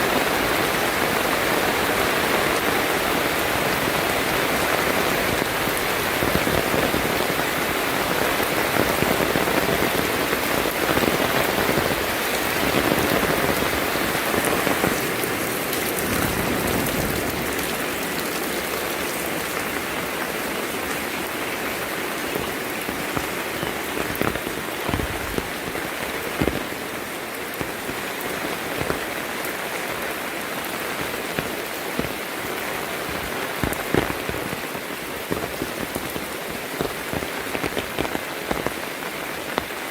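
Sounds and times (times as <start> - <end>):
heavy rain falling: 0.0 - 39.9
sharp raindrop taps: 0.0 - 39.9.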